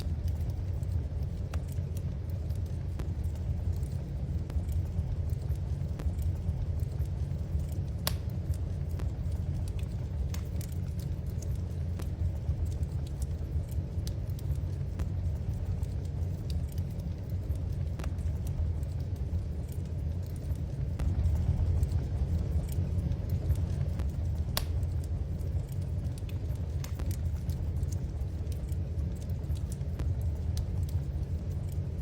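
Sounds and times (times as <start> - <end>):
low fire rumble: 0.0 - 32.0
wood fire crackling: 0.0 - 32.0.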